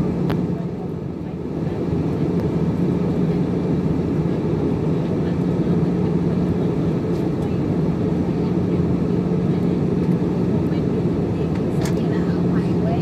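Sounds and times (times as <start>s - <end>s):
jet airliner cabin drone: 0.0s - 13.0s.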